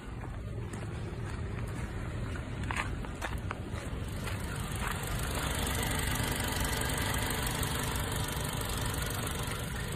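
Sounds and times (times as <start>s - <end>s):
van engine idling: 0.0s - 9.9s.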